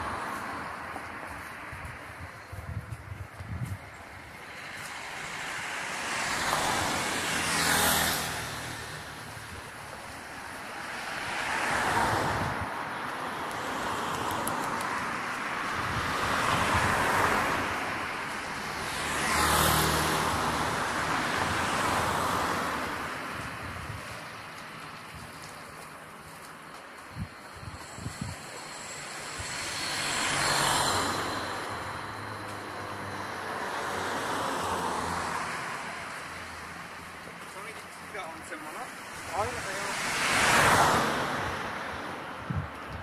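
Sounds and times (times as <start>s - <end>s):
cars passing on road: 0.0s - 43.0s.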